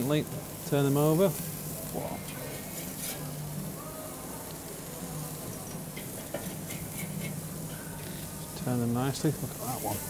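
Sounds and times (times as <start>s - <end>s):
burgers sizzling on a grill: 0.0s - 10.0s.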